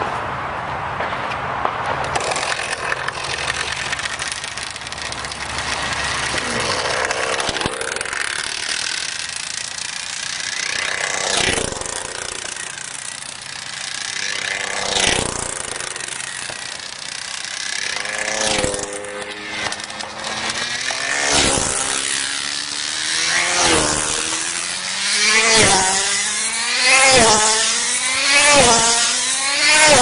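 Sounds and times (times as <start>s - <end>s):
rc car motor whine: 2.0s - 30.0s.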